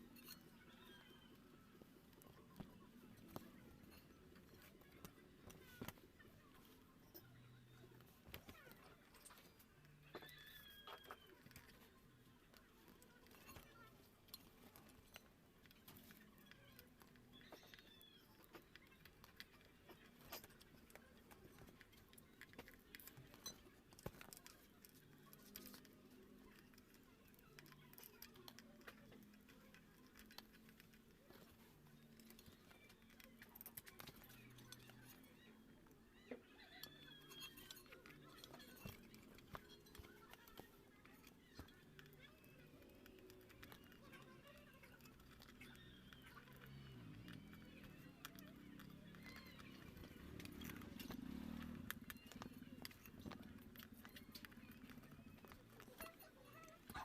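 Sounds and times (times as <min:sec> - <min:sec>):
faint clicks and taps: 0:00.0 - 0:57.0.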